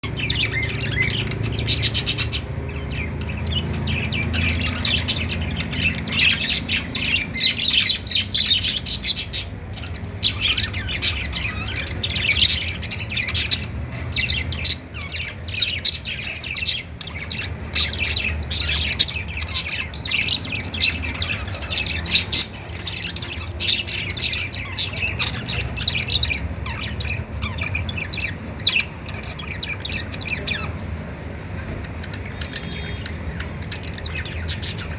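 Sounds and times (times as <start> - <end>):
budgerigars chattering: 0.0 - 34.9.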